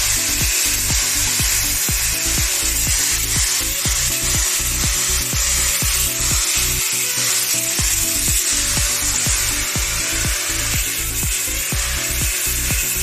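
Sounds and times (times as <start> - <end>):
angle grinder cutting steel mesh: 0.0 - 13.0
background music with beat: 0.0 - 13.0.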